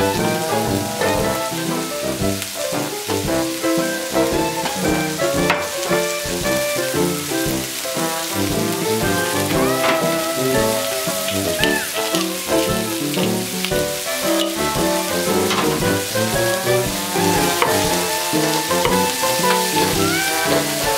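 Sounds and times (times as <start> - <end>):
background music with plain melody: 0.0 - 20.9
food sizzling in a pan: 0.0 - 20.9.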